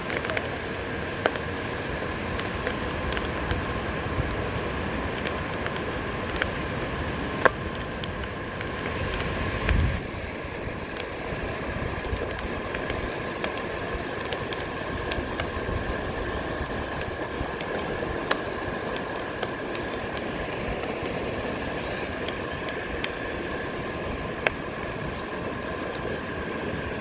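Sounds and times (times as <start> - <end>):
surf: 0.0 - 27.0
wind: 0.0 - 27.0.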